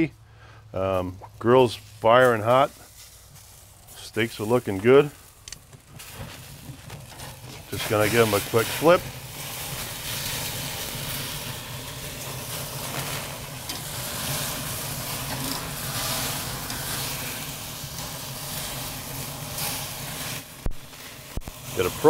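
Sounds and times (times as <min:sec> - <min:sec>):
fire flaring: 0:00.7 - 0:22.0
steaks sizzling on grill: 0:01.4 - 0:22.0.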